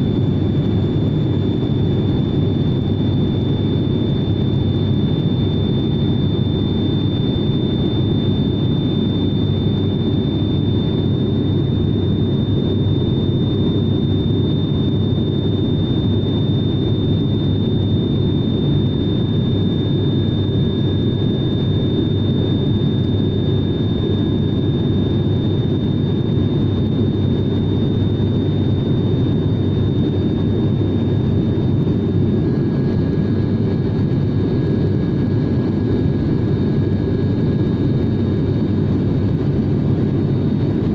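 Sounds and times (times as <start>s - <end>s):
faint high whine: 0.0s - 40.9s
propeller aircraft cabin drone: 0.0s - 40.9s.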